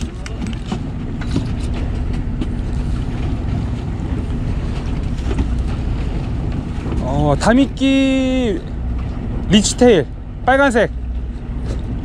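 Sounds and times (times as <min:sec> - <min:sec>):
boat engine humming: 0:00.0 - 0:12.0
wind buffeting microphone: 0:00.0 - 0:12.0.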